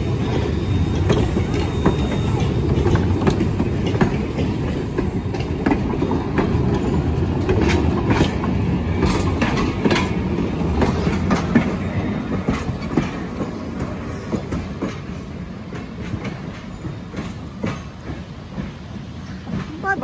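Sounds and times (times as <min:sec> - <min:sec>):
train wheels rumbling on rails: 0:00.0 - 0:20.0
wheels clicking over track: 0:00.8 - 0:20.0.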